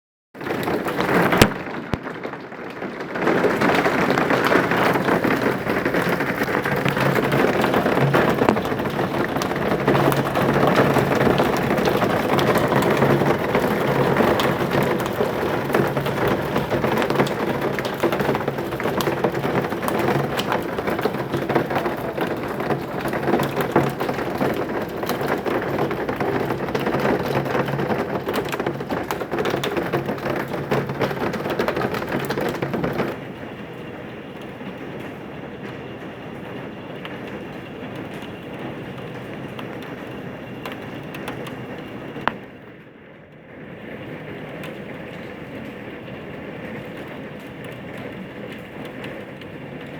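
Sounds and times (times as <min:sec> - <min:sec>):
heavy rain downpour drumming: 0:00.4 - 0:49.9.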